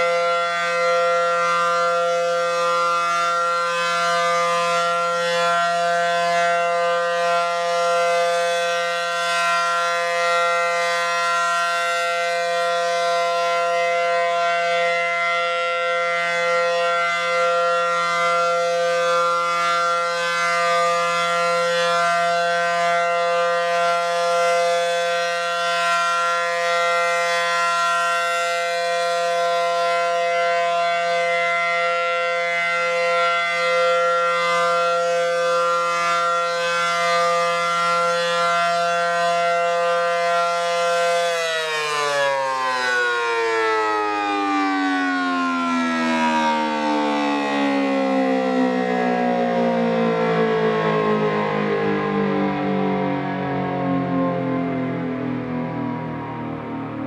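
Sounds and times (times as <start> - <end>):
outdoor warning siren steady tone: 0.0 - 57.0.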